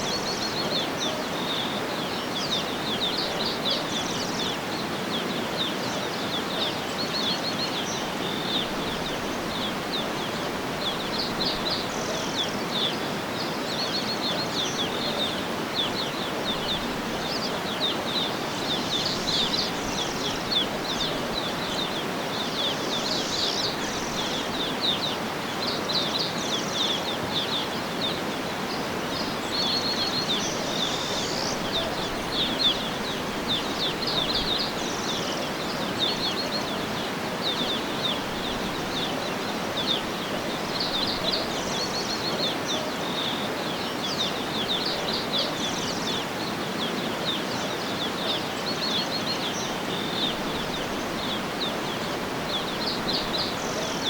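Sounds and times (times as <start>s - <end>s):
rushing background hiss: 0.0s - 54.0s
small birds chirping: 0.0s - 54.0s.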